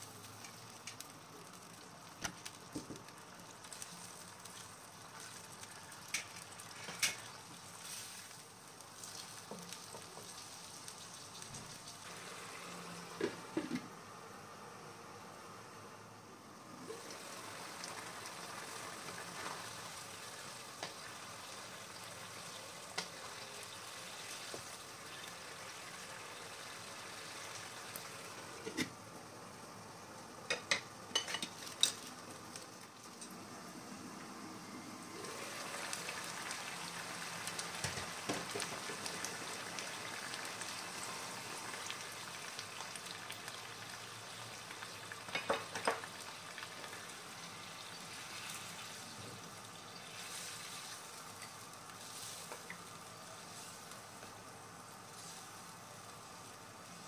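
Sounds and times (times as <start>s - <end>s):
curry bubbling and sizzling: 0.0s - 13.8s, 16.6s - 57.0s.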